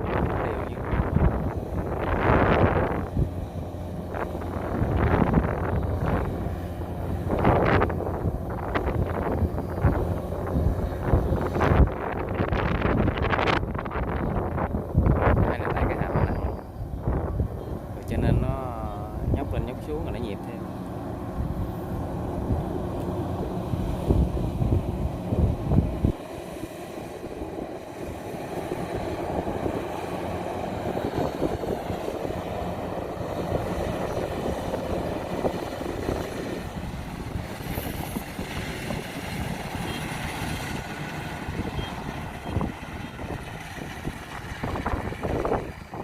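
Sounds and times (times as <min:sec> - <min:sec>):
combine harvester drone: 0:00.0 - 0:46.0.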